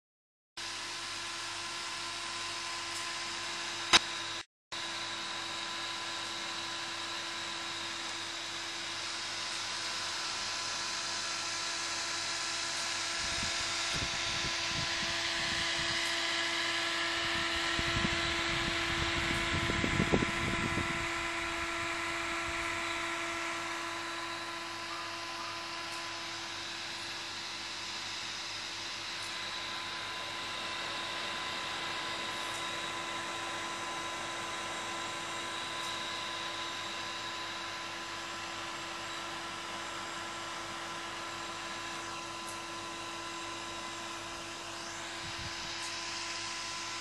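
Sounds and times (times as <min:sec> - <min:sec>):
computer cooling fans humming: 0:05.3 - 0:47.0.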